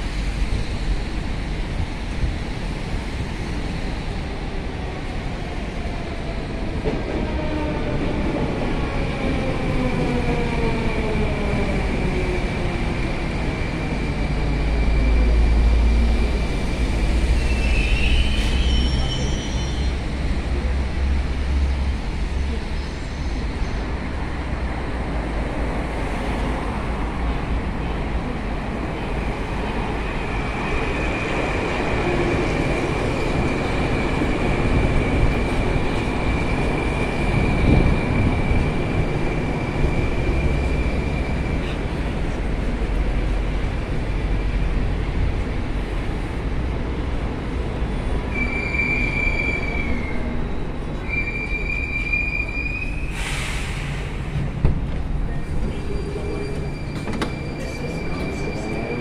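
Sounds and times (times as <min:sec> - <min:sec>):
metro train whining to a stop: 0:00.0 - 0:59.0.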